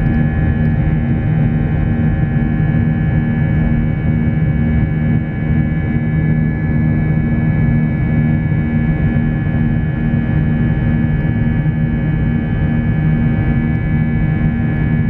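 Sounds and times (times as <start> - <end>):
jet engines droning: 0.0 - 15.0.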